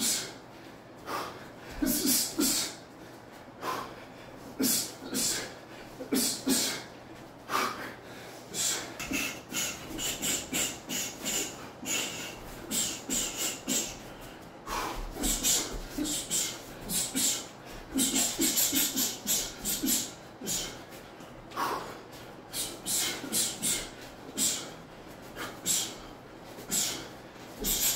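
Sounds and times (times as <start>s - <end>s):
man's sharp exhaled breaths: 0.0s - 27.9s.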